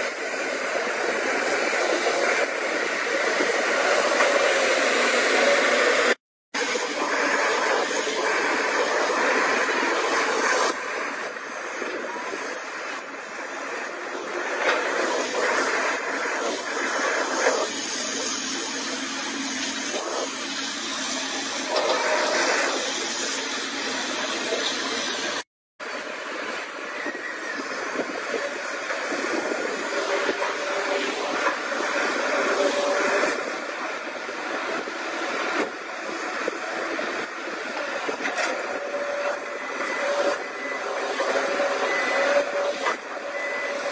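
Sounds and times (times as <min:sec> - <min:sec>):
excavator diesel engines under load: 0:00.0 - 0:43.9.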